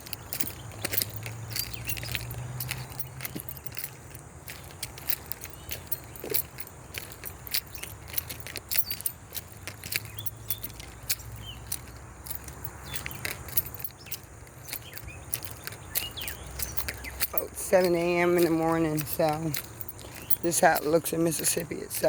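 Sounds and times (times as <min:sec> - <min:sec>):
footsteps crunching on gravel: 0:00.0 - 0:22.0.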